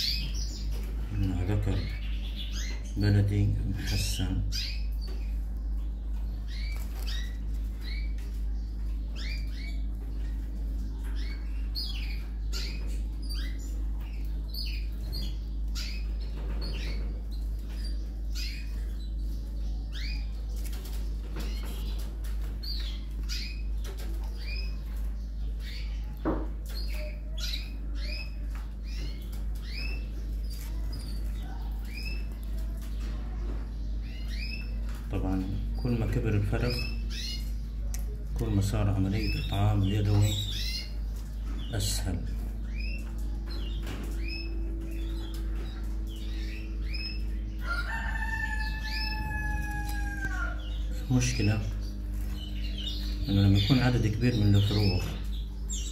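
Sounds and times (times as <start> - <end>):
low hum: 0.0 - 55.9.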